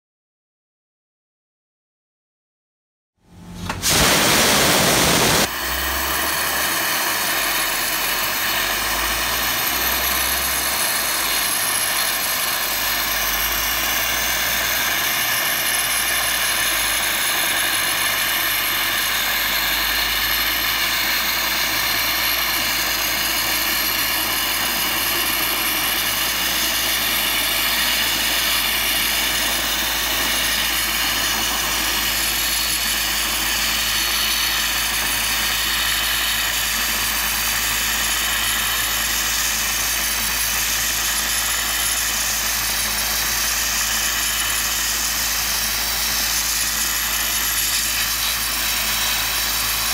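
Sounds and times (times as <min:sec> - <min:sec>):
compressed air blaster hissing: 0:03.6 - 0:49.9.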